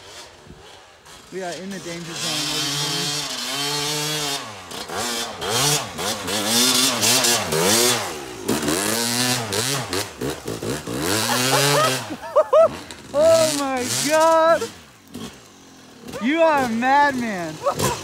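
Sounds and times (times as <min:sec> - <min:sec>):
dirt bike revving: 0:00.0 - 0:18.0.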